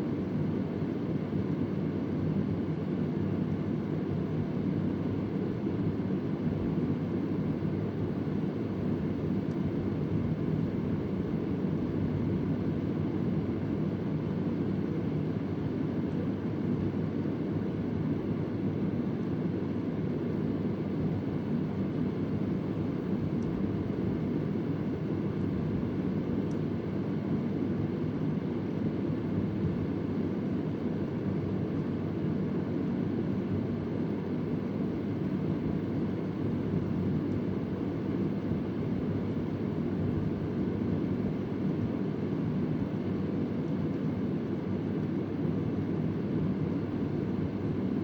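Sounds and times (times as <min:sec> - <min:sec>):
fan running: 0:00.0 - 0:48.0.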